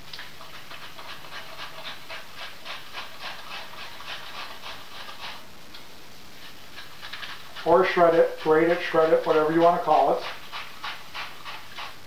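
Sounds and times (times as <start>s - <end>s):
cabbage rasping on a grater: 0.3s - 5.5s, 6.4s - 12.0s.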